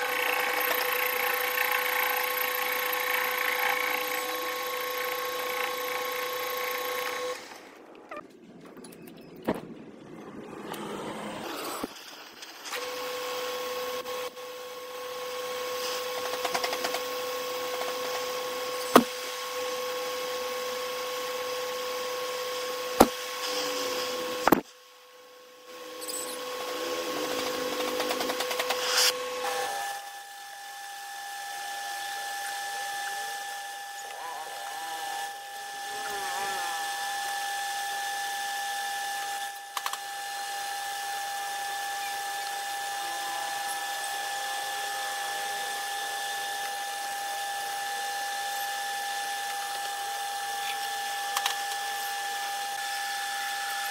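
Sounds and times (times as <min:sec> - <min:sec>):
metal lathe whine: 0:00.0 - 0:08.2, 0:10.2 - 0:53.9.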